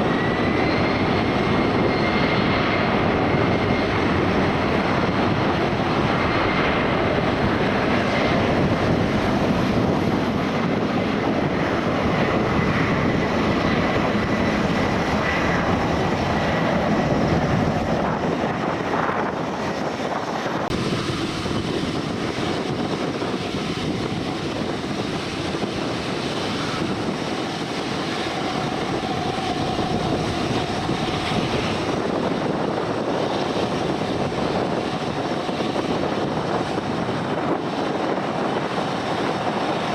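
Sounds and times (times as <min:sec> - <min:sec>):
aircraft engine rush: 0:00.0 - 0:39.9.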